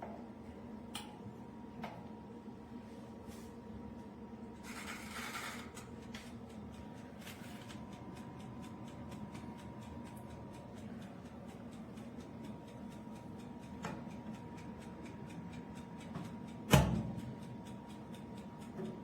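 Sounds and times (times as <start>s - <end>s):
oven humming: 0.0s - 19.0s.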